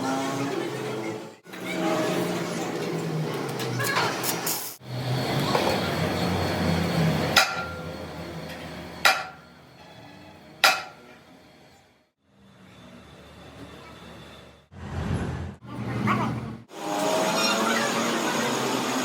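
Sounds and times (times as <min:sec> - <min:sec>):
loud workshop noise: 0:00.0 - 0:19.0.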